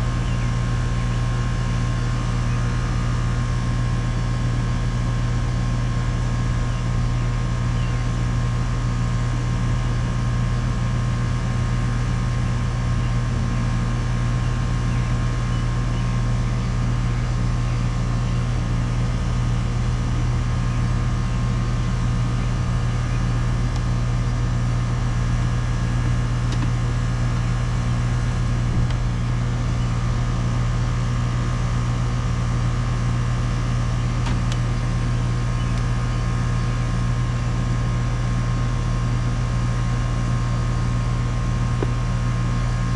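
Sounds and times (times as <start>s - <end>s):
air conditioner unit humming: 0.0s - 42.9s.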